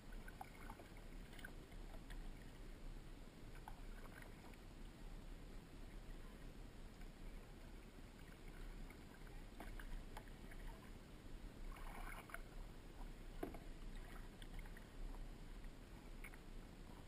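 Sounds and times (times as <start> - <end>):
paddle splashes and drips: 0.0 - 2.7, 3.5 - 4.7, 5.9 - 11.0, 11.6 - 16.5
low steady rumble: 0.0 - 17.0.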